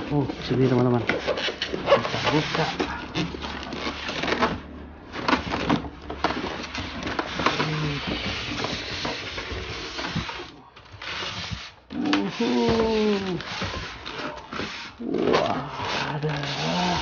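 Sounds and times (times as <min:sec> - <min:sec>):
cardboard and plastic rustling: 0:00.0 - 0:17.0.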